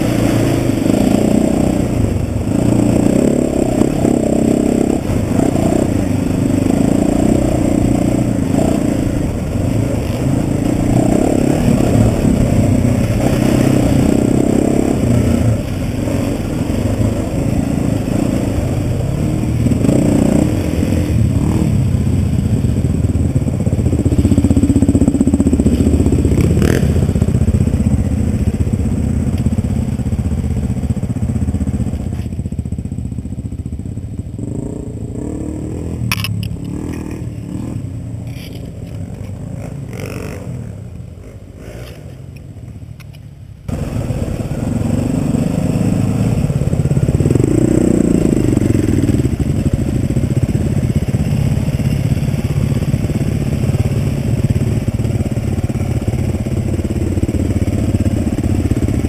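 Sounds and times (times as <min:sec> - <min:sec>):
dirt bike engine running: 0:00.0 - 0:42.0, 0:43.7 - 0:59.0.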